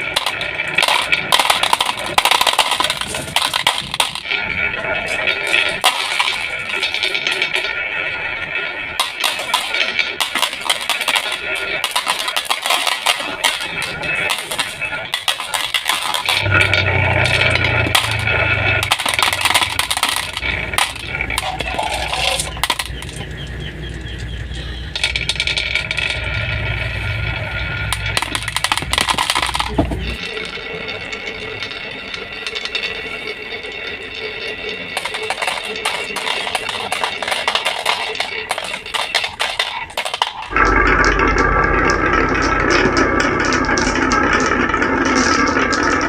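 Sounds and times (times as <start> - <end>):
marbles clacking on plastic track: 0.0 - 46.0.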